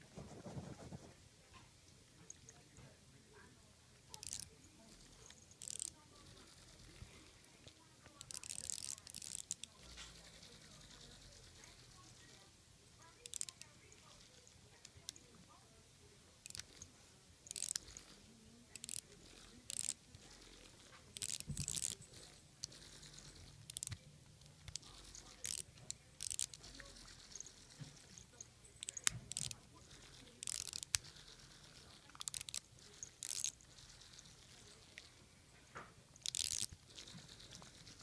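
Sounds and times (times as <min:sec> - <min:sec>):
faint low hum: 0:00.0 - 0:38.0
pet chewing plush toy: 0:03.9 - 0:38.0.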